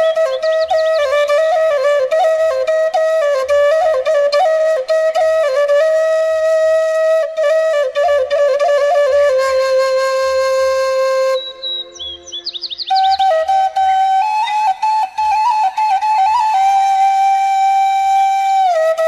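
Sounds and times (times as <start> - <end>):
bamboo flute melody: 0.0 - 19.0.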